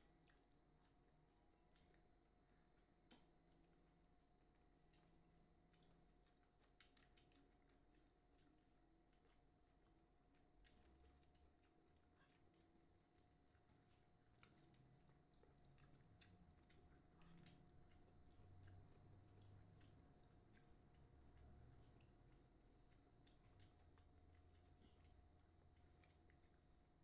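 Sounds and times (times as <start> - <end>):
faint chewing and clicks: 0.0 - 27.0.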